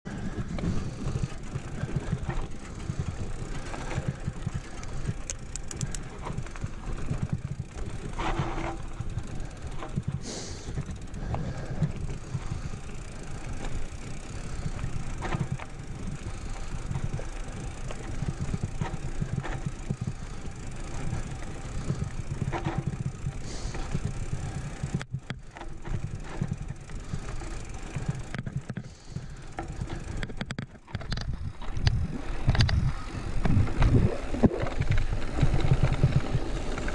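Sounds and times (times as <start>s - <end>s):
bike rattles and scrapes: 0.1s - 36.9s
bike rolling over stony ground: 0.1s - 36.9s.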